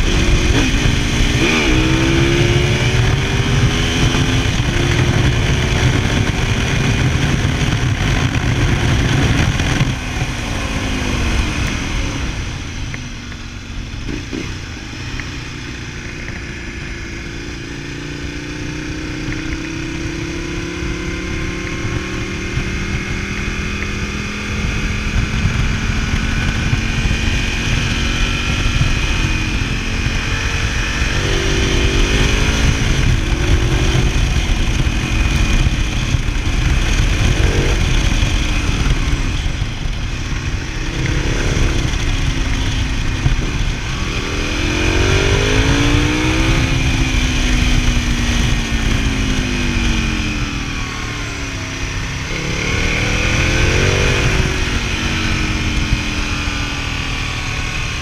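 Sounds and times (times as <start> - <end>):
motorcycle engine accelerating: 0.0 - 58.0
wind rumble: 0.0 - 58.0.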